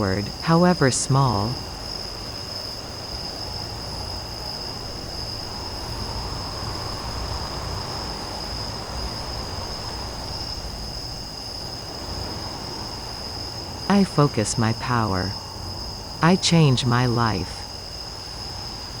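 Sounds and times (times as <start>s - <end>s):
crickets trilling: 0.0s - 19.0s
low rumbling background noise: 0.0s - 19.0s.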